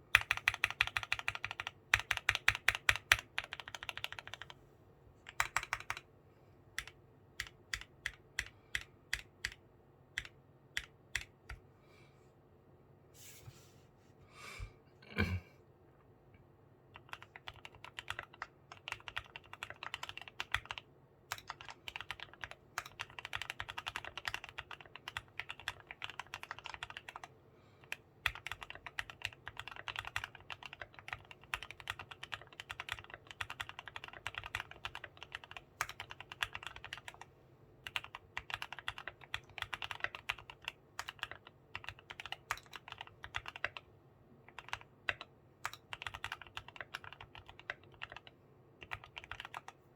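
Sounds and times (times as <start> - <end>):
fast typing on mechanical keyboard: 0.0 - 4.6, 5.3 - 6.1, 6.8 - 11.6, 16.9 - 43.9, 44.5 - 49.8.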